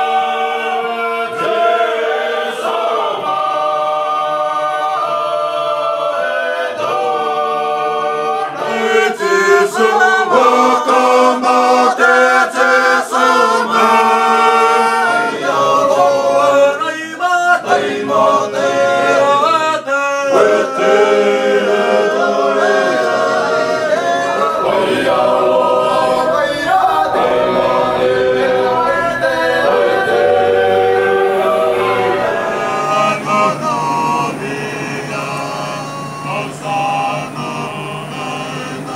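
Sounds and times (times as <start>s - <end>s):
young men singing in harmony: 0.0s - 38.9s.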